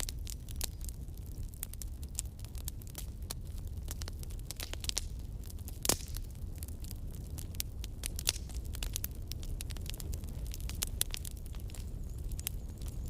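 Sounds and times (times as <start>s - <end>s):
campfire crackling and popping: 0.0s - 13.0s
low rumble of burning: 0.0s - 13.0s.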